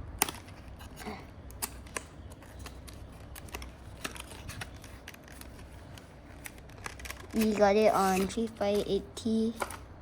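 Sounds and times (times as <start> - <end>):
hands handling plastic packaging: 0.0 - 10.0.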